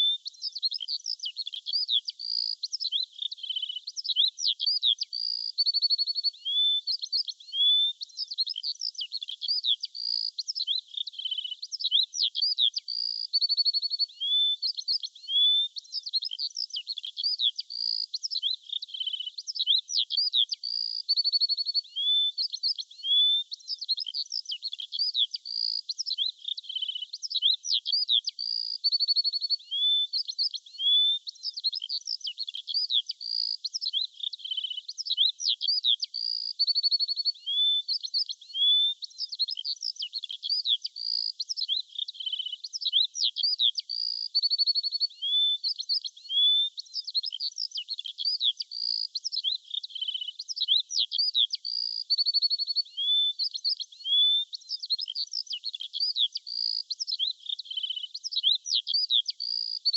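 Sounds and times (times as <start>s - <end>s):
birdsong chirps and trills: 0.0s - 59.9s.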